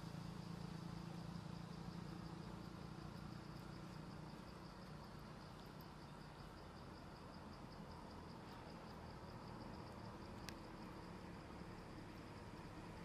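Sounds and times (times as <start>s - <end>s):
insect chirping: 0.0s - 13.0s
low steady hum: 0.0s - 13.0s.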